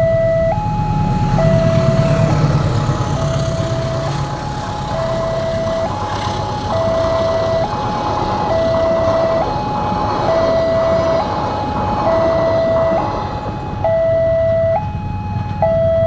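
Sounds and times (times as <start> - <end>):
low steady rumble: 0.0 - 16.0
two-tone crossing warning siren: 0.0 - 16.0.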